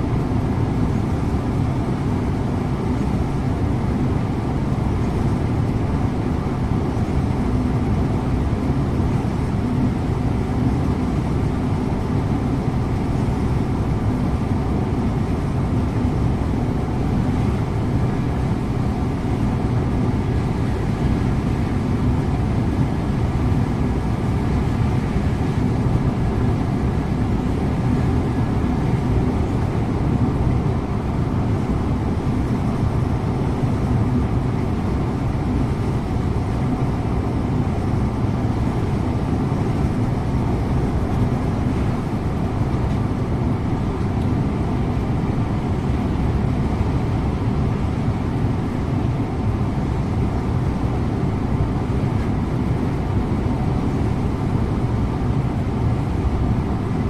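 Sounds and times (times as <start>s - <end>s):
bus engine drone: 0.0s - 57.0s
road and tyre noise: 0.0s - 57.0s.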